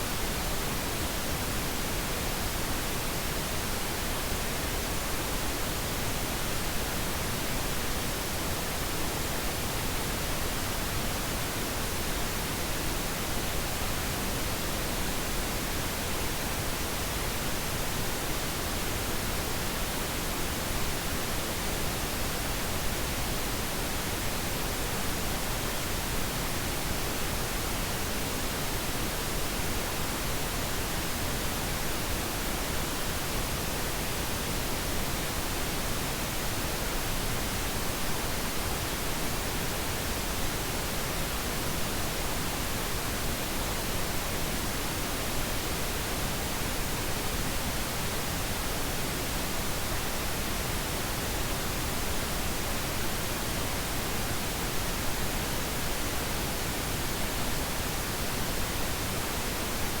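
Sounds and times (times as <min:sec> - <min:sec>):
pink noise hiss: 0:00.0 - 1:00.0.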